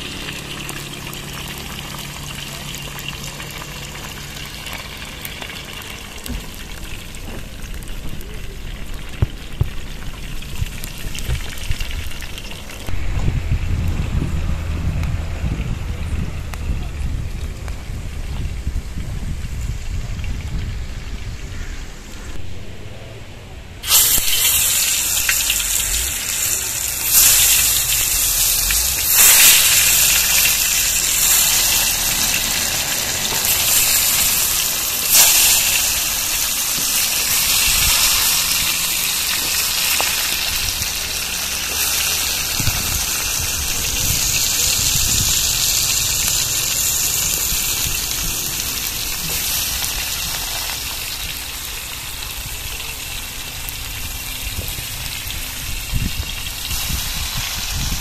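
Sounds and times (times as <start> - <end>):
tomato slices sizzling in oil: 0.0 - 13.8, 23.8 - 58.0.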